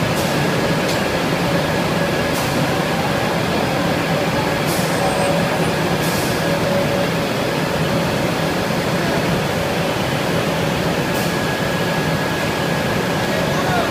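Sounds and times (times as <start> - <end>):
factory machinery running: 0.0 - 13.9.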